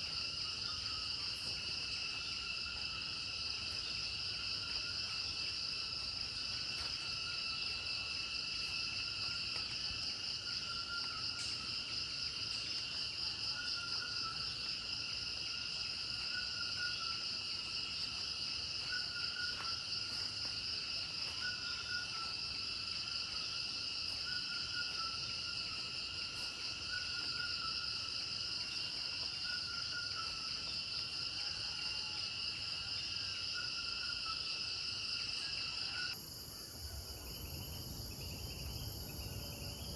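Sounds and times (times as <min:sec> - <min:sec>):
faint low insect call: 0:00.0 - 0:39.9
insects trilling: 0:00.0 - 0:39.9.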